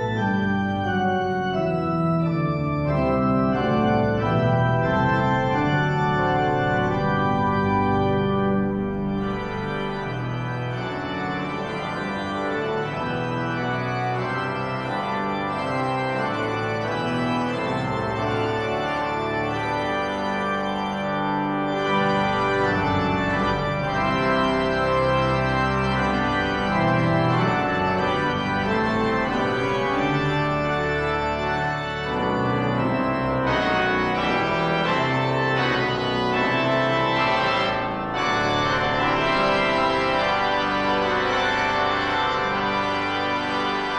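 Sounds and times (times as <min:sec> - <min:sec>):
pipe organ chords: 0:00.0 - 0:43.9.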